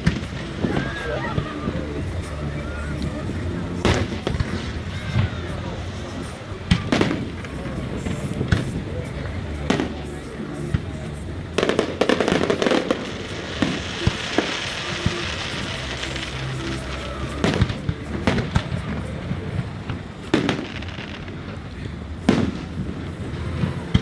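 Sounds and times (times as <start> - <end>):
fireworks crackling burst: 0.0 - 24.0
fireworks loud bangs: 0.0 - 24.0
music: 0.0 - 24.0.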